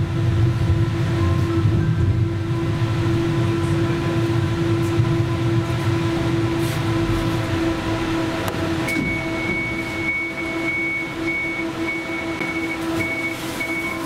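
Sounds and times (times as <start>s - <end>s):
low rumble of wheels: 0.0s - 14.0s
tram steady hum: 0.0s - 14.0s.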